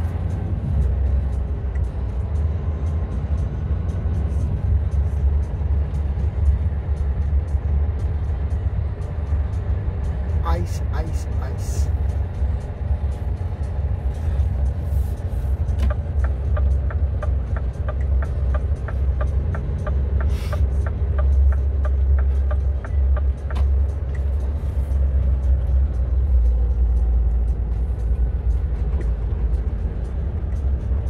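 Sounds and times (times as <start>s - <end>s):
diesel truck engine rumbling: 0.0s - 31.0s
turn signal ticking: 0.0s - 31.0s.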